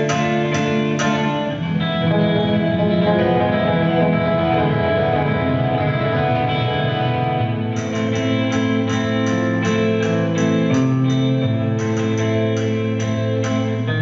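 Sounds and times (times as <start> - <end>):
electric guitar instrumental music: 0.0 - 14.0.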